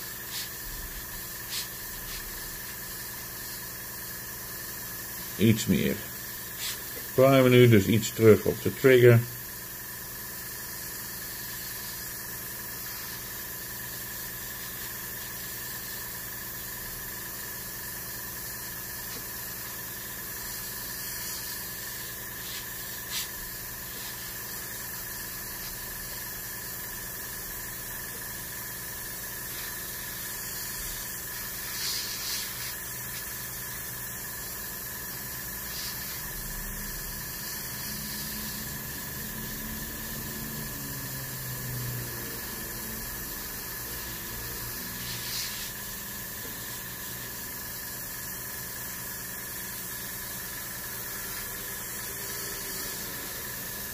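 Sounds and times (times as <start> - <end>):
airbrush spraying hiss: 0.0 - 53.9
low mechanical hum: 0.0 - 53.9.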